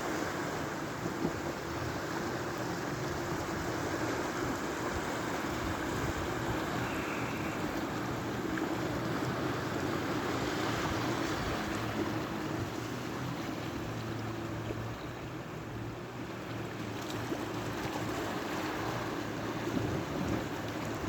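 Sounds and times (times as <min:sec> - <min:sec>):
sea waves washing on shore: 0:00.0 - 0:21.0.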